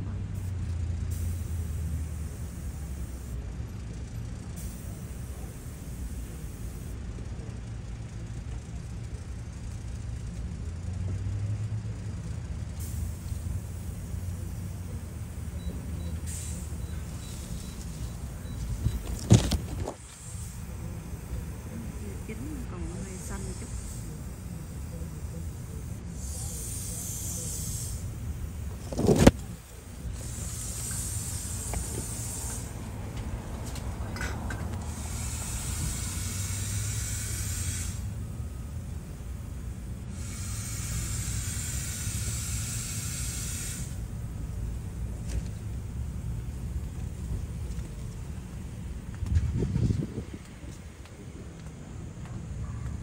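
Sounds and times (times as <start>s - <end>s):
passing car hiss: 0.0s - 3.5s, 4.6s - 7.0s, 12.6s - 52.6s
traffic rumble: 0.0s - 53.0s
vehicle engine humming: 0.0s - 53.0s.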